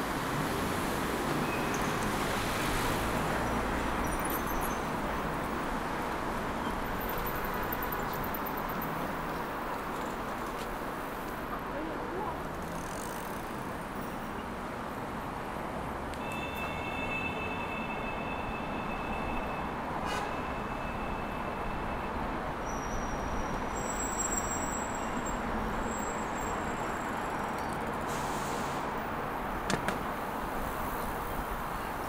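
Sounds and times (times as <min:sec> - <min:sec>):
city road traffic: 0:00.0 - 0:32.0.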